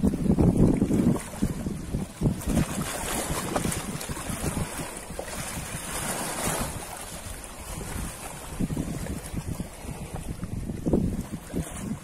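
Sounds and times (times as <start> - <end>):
ocean waves washing on shore: 0.0 - 12.0
wind buffeting microphone: 0.0 - 12.0.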